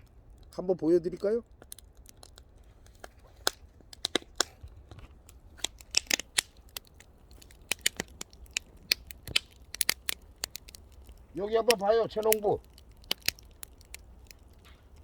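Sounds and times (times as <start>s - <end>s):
burning logs snapping and popping: 0.0s - 15.0s
wood fire crackling: 0.0s - 15.0s.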